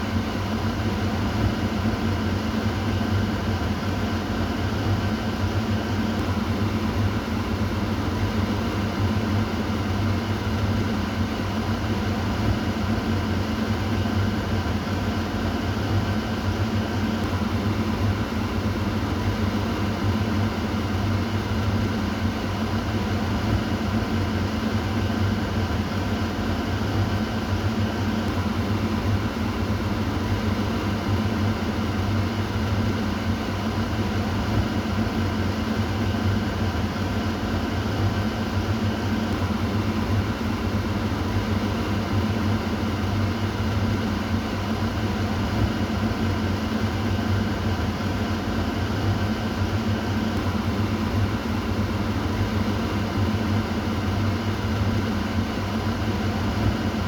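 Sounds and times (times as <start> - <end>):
exhaust fan running: 0.0 - 57.0.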